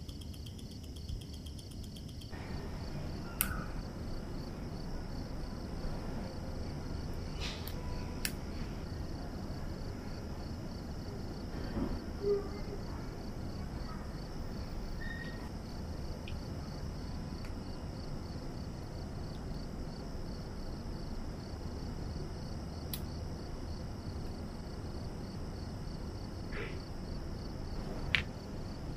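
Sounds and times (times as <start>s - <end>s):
faint high pulsing whine: 0.0s - 28.9s.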